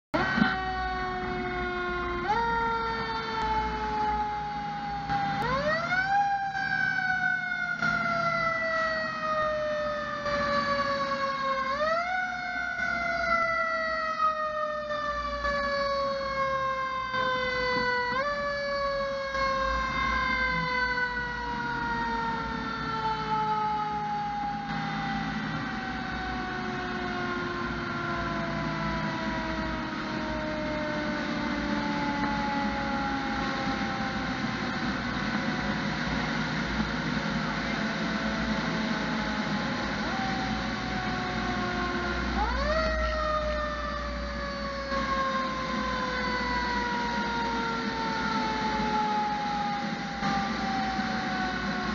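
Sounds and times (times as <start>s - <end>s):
fire engine siren: 0.1s - 51.9s
truck engine running: 0.2s - 51.9s.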